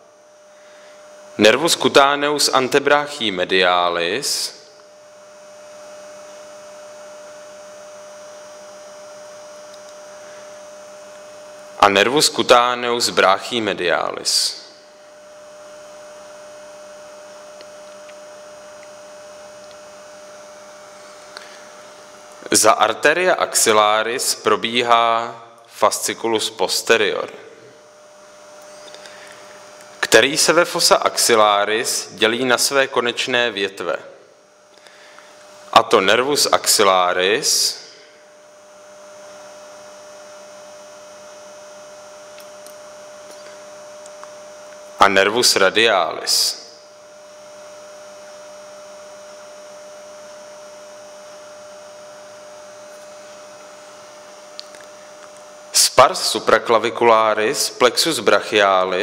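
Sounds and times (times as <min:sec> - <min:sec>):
electrical hum and hiss: 0:00.0 - 0:59.0.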